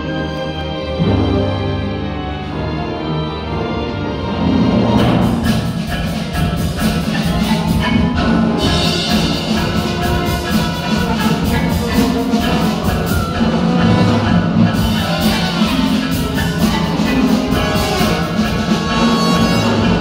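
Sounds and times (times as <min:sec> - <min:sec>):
orchestra playing ballet music: 0:00.0 - 0:20.0.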